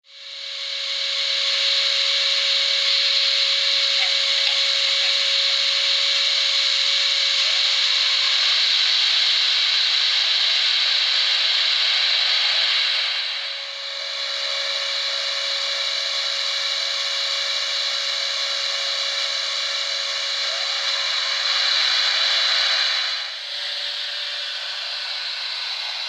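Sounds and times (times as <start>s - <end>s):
model locomotive running sound: 0.1s - 26.0s.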